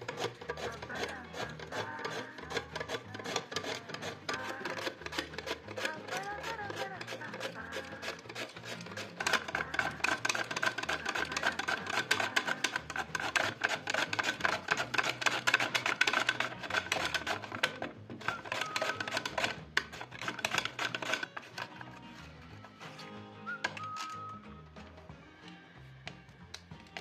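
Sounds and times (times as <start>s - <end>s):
mandoline slicer scraping cuts: 0.0s - 24.3s.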